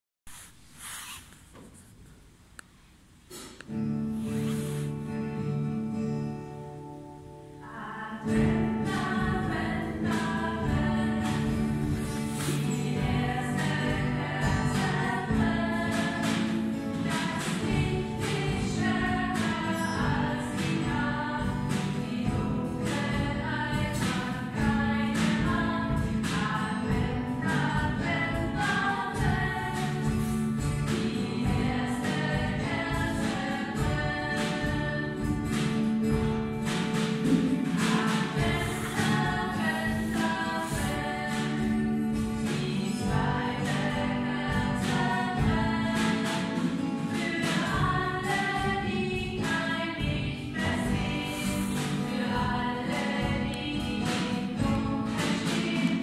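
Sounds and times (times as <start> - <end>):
choir singing with accompaniment: 7.6 - 56.0.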